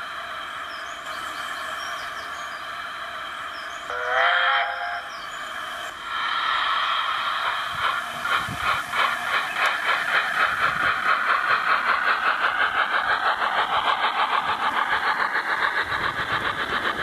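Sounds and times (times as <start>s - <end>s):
steam locomotive chuffs with hiss: 0.0s - 17.0s.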